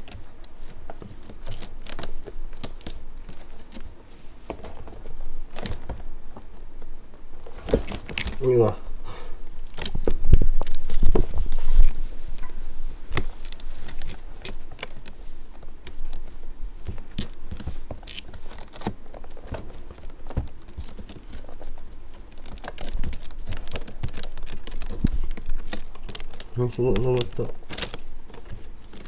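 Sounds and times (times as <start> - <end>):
kittens scratching and rustling: 0.0 - 29.0.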